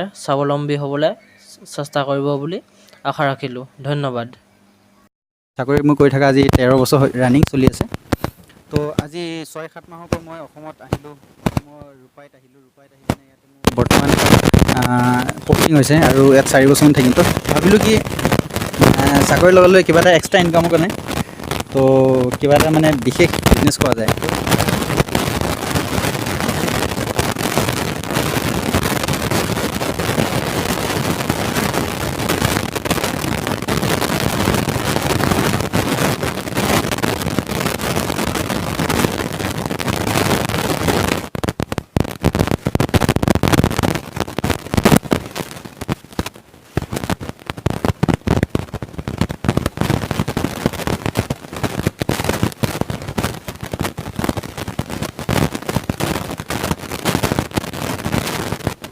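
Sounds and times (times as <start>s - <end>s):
microphone crackling and popping: 5.6s - 12.2s, 12.9s - 58.9s.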